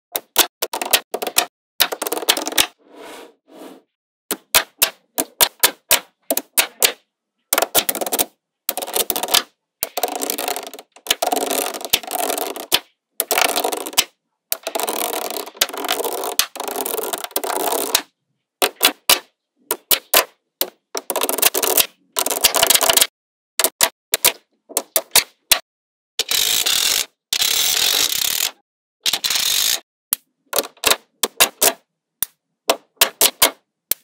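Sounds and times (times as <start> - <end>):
magnetic balls clicking together: 4.3 - 18.0, 18.6 - 25.6, 26.2 - 34.0.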